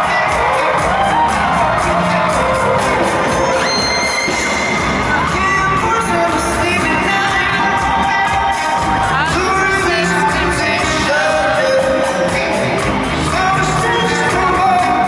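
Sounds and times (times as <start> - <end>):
bass: 0.0 - 15.0
crowd noise: 0.0 - 15.0
person singing: 0.0 - 15.0.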